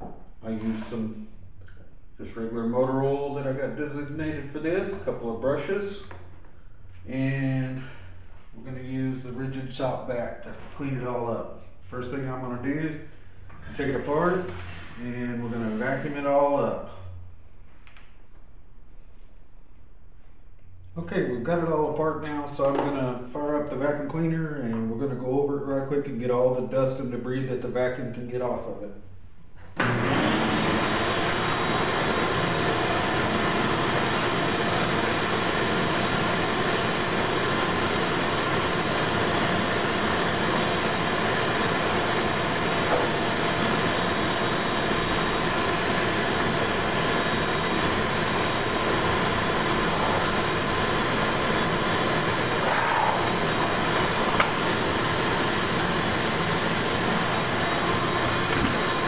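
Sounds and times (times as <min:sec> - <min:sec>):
shop vacuum running: 0:00.0 - 0:17.2, 0:21.0 - 0:27.7, 0:29.6 - 0:59.0.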